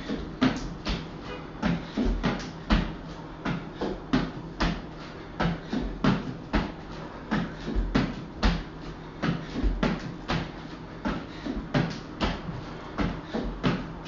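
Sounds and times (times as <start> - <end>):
sneakers and hands thudding on tile: 0.1 - 14.0.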